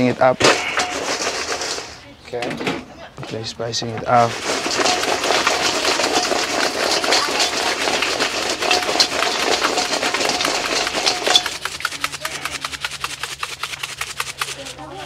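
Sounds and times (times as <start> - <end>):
fries rattling in metal bowl: 0.0 - 2.0, 3.3 - 15.0.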